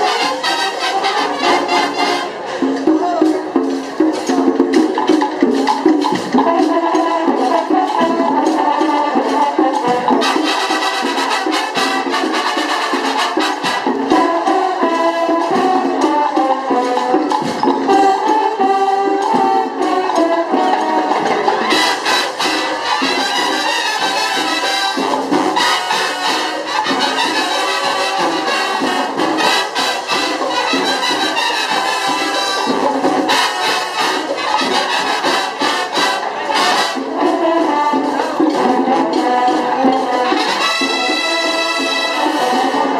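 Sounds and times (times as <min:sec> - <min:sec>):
brass melody: 0:00.0 - 0:42.9
marching band percussion: 0:00.0 - 0:42.9.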